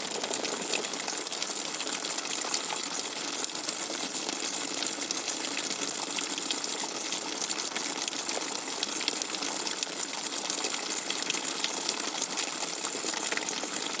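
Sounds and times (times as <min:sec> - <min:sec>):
rainwater dripping: 0:00.0 - 0:04.0, 0:04.8 - 0:14.0.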